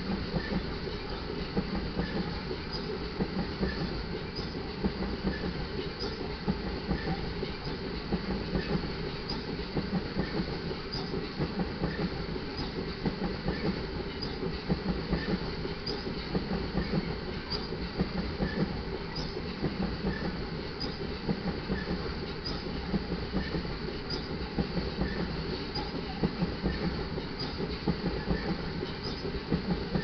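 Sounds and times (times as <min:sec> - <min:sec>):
train wheels clacking over rail joints: 0:00.0 - 0:30.0.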